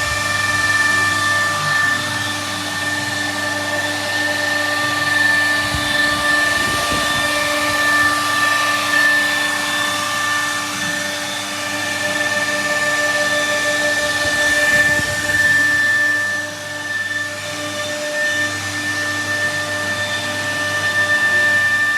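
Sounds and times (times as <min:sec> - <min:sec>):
router spindle whining: 0:00.0 - 0:21.9.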